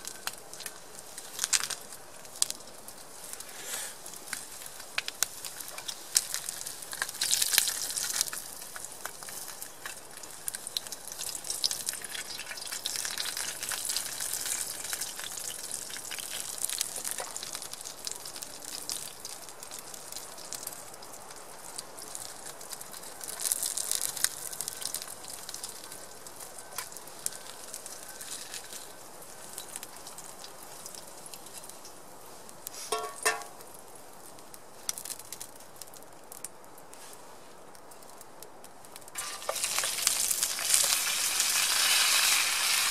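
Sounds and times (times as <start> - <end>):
meat sizzling in frying pan: 0.0 - 31.9, 39.1 - 42.9.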